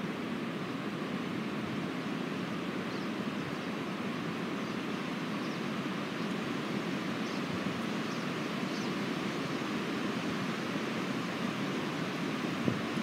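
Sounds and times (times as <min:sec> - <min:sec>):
wind through conifer branches: 0:00.0 - 0:13.0.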